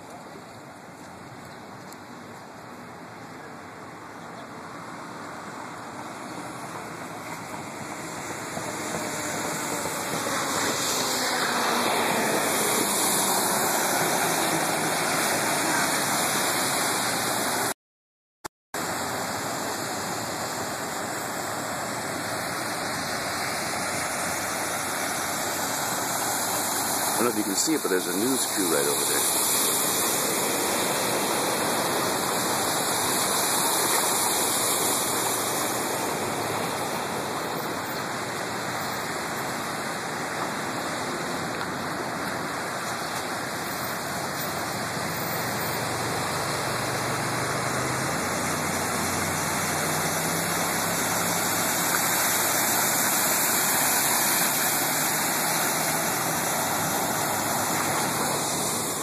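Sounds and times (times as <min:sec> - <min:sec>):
floodwater rushing and splashing: 0:00.0 - 0:17.8, 0:18.8 - 0:59.0.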